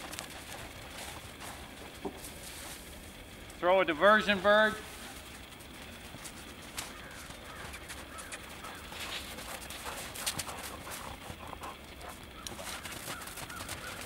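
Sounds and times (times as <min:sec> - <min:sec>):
dog footfalls crunching snow: 0:00.0 - 0:14.0.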